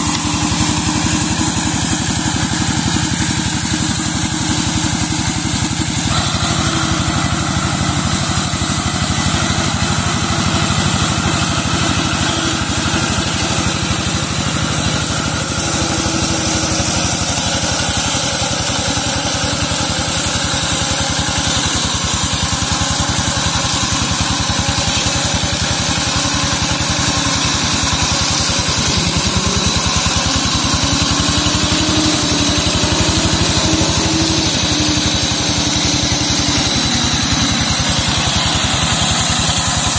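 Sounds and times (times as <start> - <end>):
brush mower engine running: 0.0 - 39.9.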